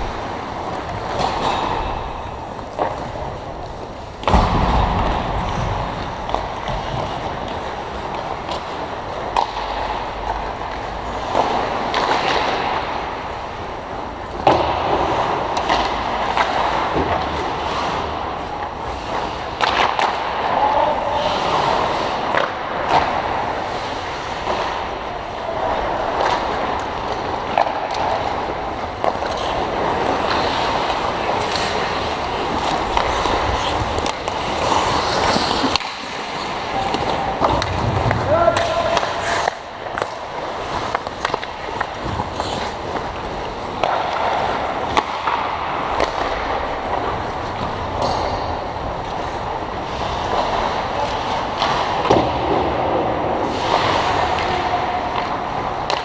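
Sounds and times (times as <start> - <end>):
skates scraping on ice: 0.0 - 56.0
sticks and puck clacking: 0.0 - 56.0.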